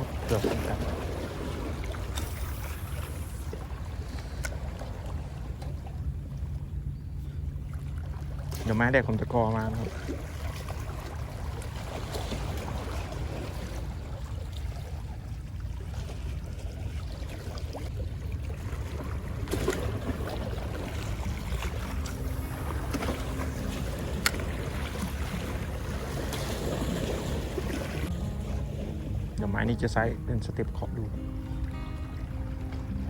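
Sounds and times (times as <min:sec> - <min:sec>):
sea waves against rocks: 0:00.0 - 0:06.9, 0:07.9 - 0:31.0.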